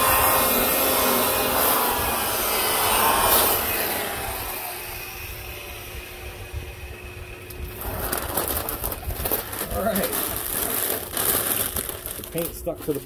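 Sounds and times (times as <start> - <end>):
electric polisher whirring: 0.0 - 12.2.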